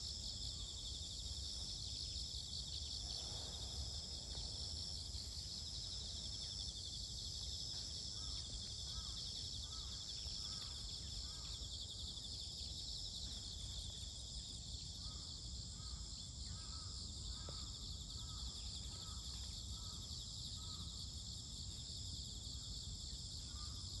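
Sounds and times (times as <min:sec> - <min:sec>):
insect chorus trilling: 0:00.0 - 0:24.0.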